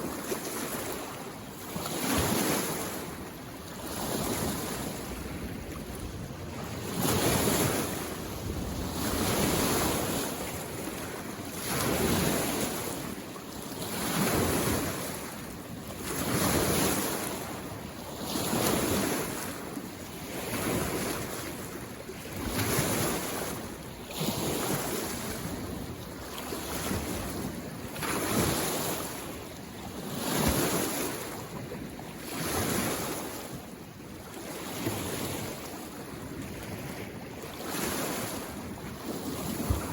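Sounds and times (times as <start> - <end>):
small lake waves washing in: 0.0 - 39.9.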